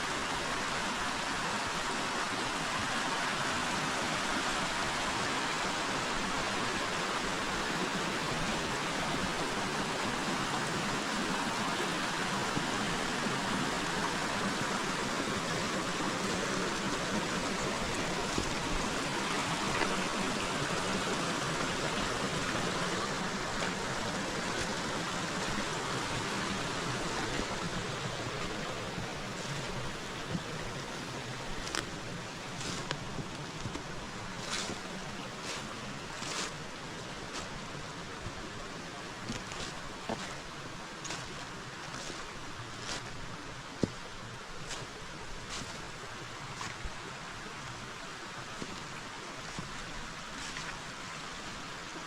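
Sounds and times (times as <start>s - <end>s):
river water flowing over rocks: 0.0s - 52.0s.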